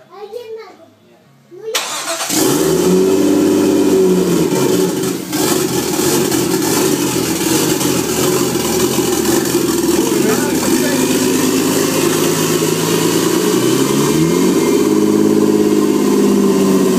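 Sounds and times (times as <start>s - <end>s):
car engine revving: 1.9s - 16.9s.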